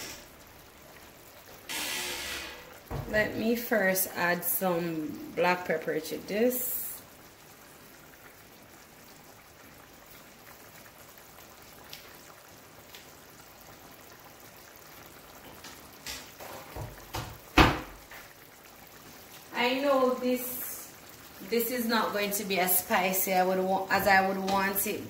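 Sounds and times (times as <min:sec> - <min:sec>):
sauce bubbling in a skillet: 0:00.0 - 0:25.0.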